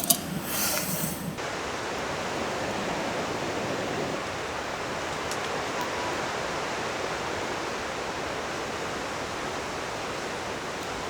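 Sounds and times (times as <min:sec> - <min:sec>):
wind blowing through trees: 0:00.0 - 0:11.0.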